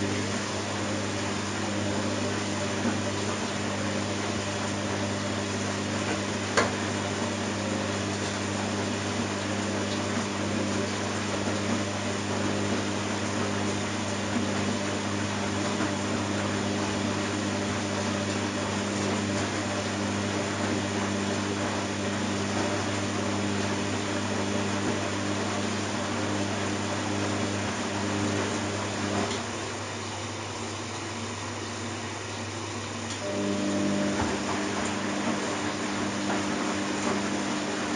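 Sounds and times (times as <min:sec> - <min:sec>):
washing machine motor hum: 0:00.0 - 0:37.9
washing machine rushing noise: 0:00.0 - 0:37.9.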